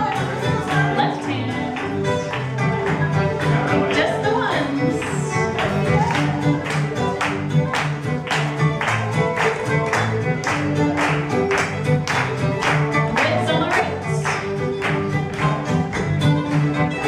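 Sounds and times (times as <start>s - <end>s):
string band playing dance tune: 0.0s - 17.0s.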